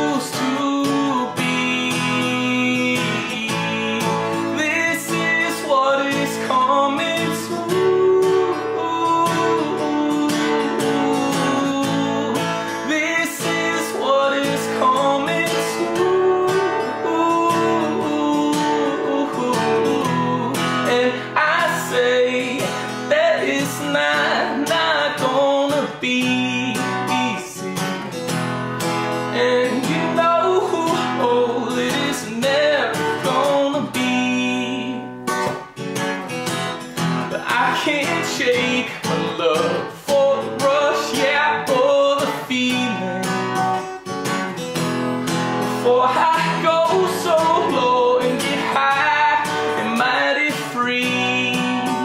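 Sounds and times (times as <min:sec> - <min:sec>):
acoustic guitar strumming: 0:00.0 - 0:52.0.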